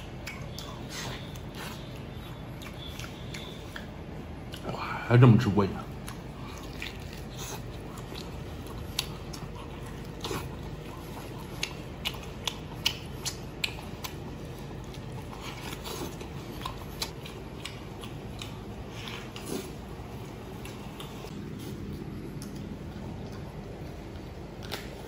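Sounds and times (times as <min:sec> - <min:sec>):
wet chewing and lip-smacking: 0:00.0 - 0:04.8, 0:05.8 - 0:25.0
low background hum: 0:00.0 - 0:25.0.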